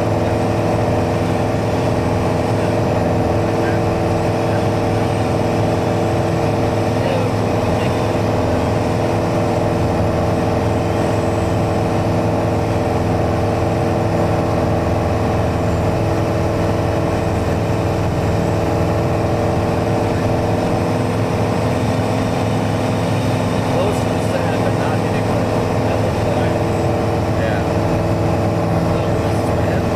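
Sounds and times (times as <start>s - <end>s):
propeller aircraft engine droning: 0.0s - 29.9s.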